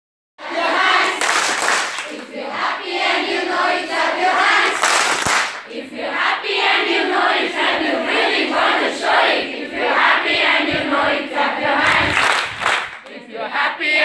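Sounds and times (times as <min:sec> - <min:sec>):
young women chanting in unison: 0:00.4 - 0:12.4, 0:13.0 - 0:14.0.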